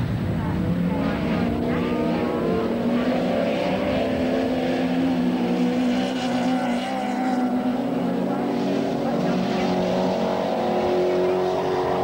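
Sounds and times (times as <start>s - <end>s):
racing car engines running hard: 0.0s - 12.0s.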